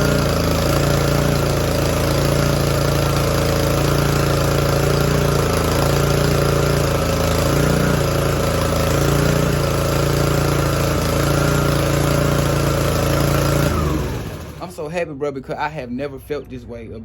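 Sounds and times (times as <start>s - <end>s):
pressure washer engine running: 0.0s - 15.7s.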